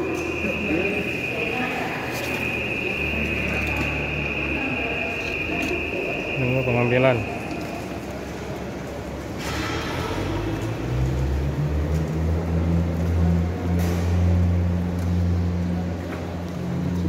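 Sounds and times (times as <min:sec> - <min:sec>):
luggage trolleys rolling on tiles: 0:00.0 - 0:17.0.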